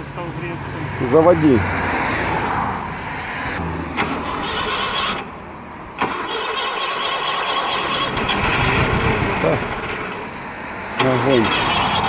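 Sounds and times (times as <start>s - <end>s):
car engine starting and running: 0.3s - 12.0s.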